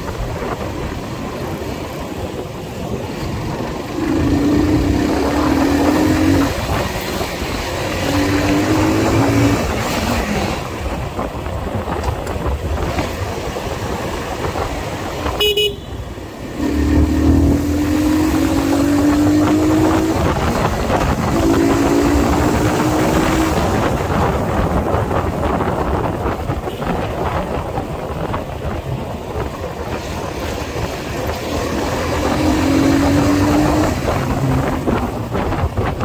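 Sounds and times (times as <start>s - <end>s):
motorcycle engine running: 0.0s - 36.0s
wind and road noise: 0.0s - 36.0s.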